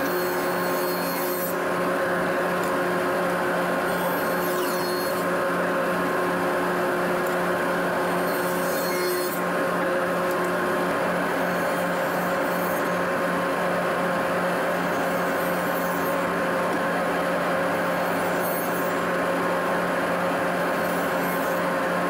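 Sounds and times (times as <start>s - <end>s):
table saw running: 0.0s - 22.0s.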